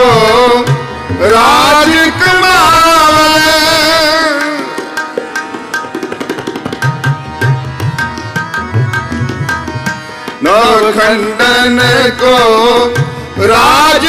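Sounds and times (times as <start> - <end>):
harmonium notes: 0.0 - 14.0
tabla playing quick rhythm: 0.0 - 14.0.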